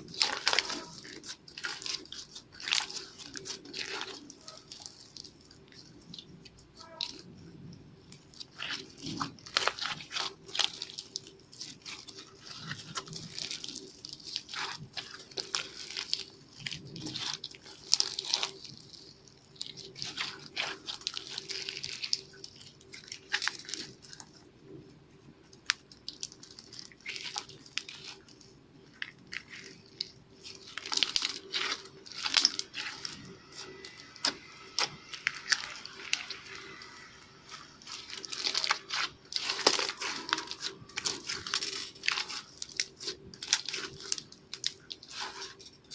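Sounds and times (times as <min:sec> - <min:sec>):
slime crackling and squelching: 0:00.0 - 0:45.9.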